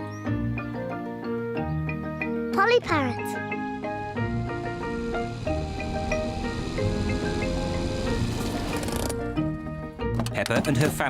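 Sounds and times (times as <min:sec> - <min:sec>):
cheerful cartoon theme music: 0:00.0 - 0:11.0.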